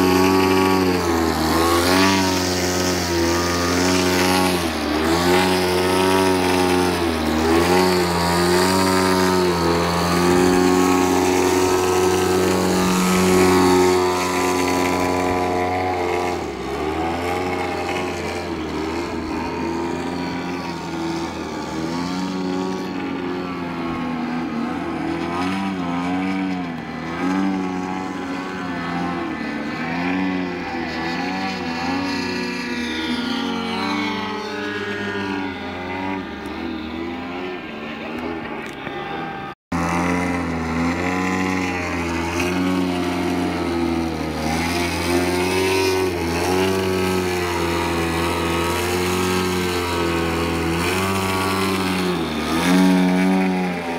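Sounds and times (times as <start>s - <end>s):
model plane engine revving: 0.0s - 53.9s.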